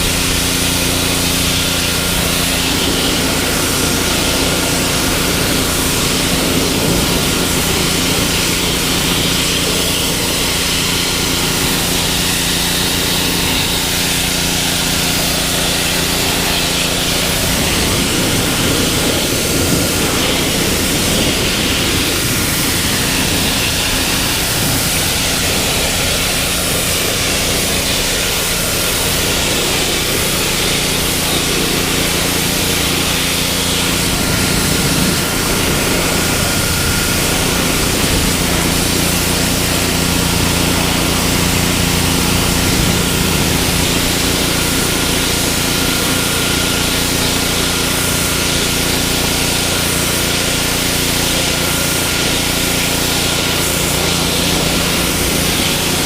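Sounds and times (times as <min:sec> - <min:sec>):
power tool motor humming: 0:00.0 - 0:56.0.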